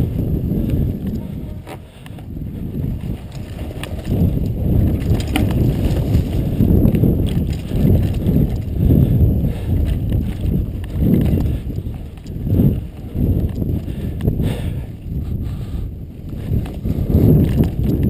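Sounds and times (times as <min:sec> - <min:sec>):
bike clicks and rattles: 0:00.0 - 0:18.0
bike tyres rumbling over dirt: 0:00.0 - 0:18.0
wind buffeting microphone: 0:00.0 - 0:18.0.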